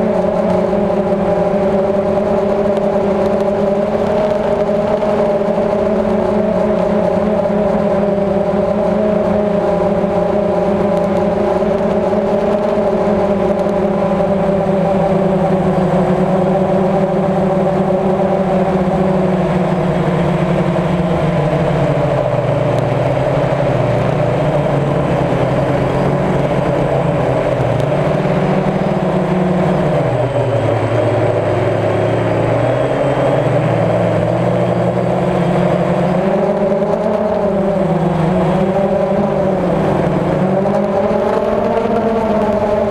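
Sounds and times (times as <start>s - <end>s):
drone motors and propellers humming: 0.0s - 42.9s.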